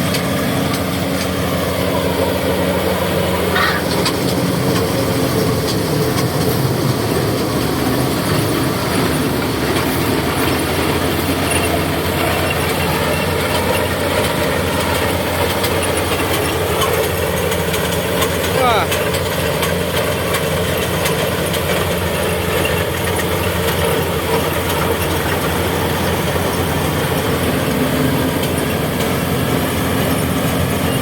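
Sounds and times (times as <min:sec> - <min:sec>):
diesel engine running: 0:00.0 - 0:31.0
mechanical noise of harvester: 0:00.0 - 0:31.0.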